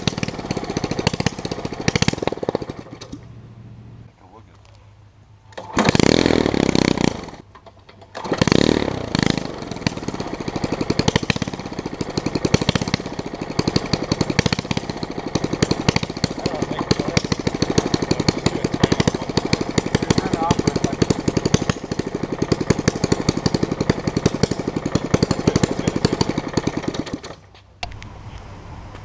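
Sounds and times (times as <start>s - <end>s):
small engine revving: 0.0s - 3.4s, 5.6s - 28.4s
open-exhaust popping: 0.0s - 4.2s, 5.5s - 29.0s.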